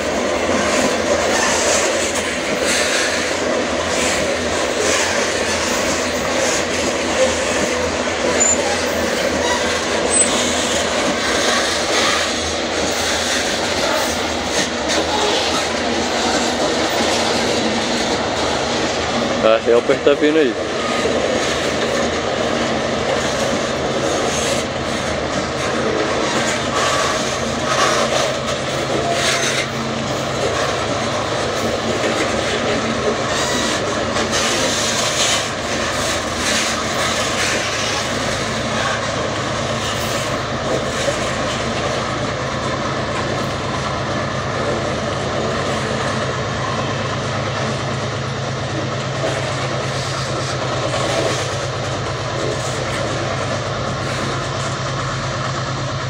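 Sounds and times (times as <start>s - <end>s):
freight train wagons rumbling: 0.0s - 56.0s
low diesel hum: 0.0s - 56.0s
wheel clacks over rail joints: 0.0s - 56.0s.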